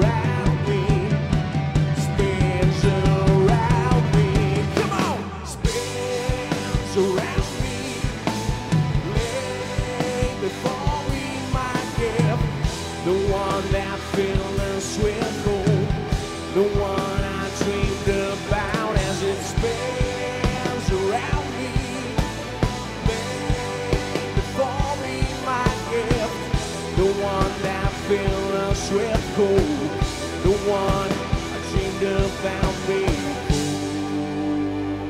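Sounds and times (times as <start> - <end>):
bass guitar: 0.0 - 35.0
drums steady beat: 0.0 - 35.0
electric guitar: 0.0 - 35.0
man singing lead vocals: 0.0 - 35.0.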